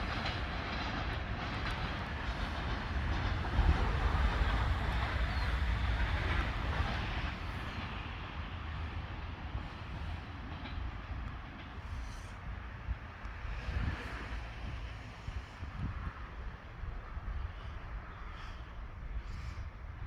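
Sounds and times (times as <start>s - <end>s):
freight train rumbling on track: 0.0s - 20.0s.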